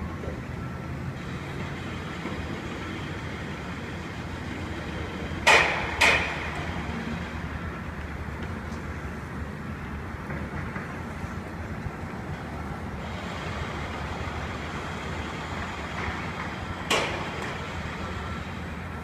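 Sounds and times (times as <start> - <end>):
distant construction and traffic rumble: 0.0 - 19.0.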